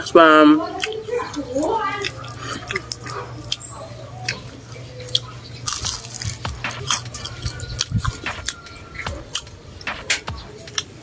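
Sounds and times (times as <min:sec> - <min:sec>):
crunching and chewing: 0:00.6 - 0:11.0
steady low hum: 0:00.6 - 0:11.0.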